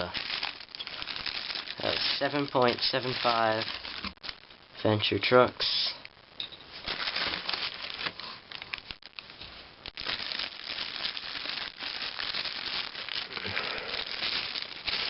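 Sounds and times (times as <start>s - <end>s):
packaging crinkling and rustling: 0.0s - 4.5s, 6.8s - 15.0s.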